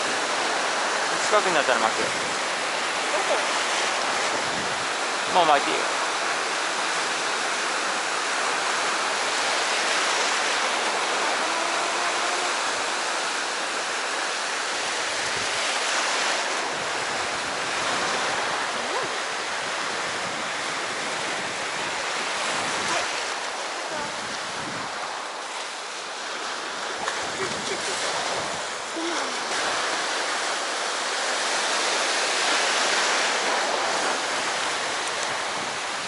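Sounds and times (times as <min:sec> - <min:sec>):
sea surf washing on shore: 0:00.0 - 0:36.0.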